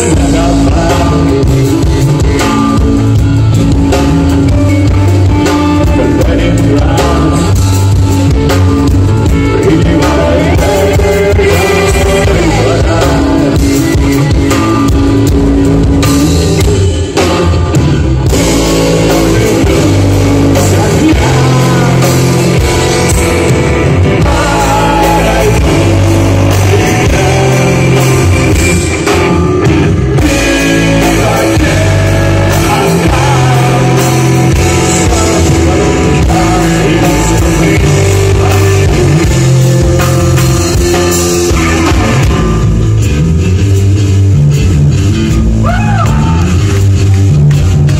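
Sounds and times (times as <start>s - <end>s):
man singing: 0.0s - 3.3s, 3.9s - 15.0s, 16.4s - 42.7s
bass guitar: 0.0s - 47.9s
drum kit: 0.0s - 47.9s
electric guitar: 0.0s - 47.9s.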